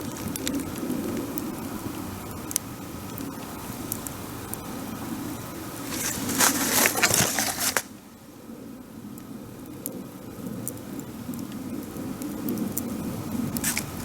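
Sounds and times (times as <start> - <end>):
campfire crackling and popping: 0.0 - 8.2, 9.1 - 14.0.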